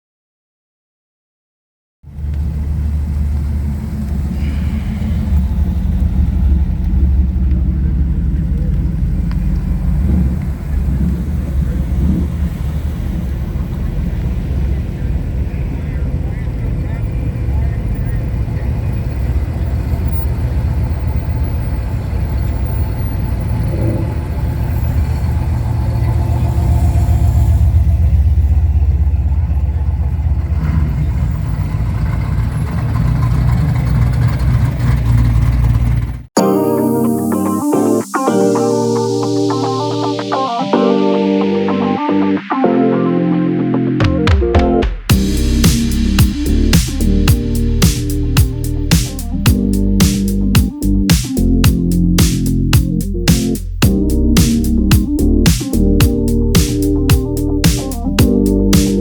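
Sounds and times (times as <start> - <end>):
car engine rumbling: 2.1 - 36.4, 44.8 - 59.0.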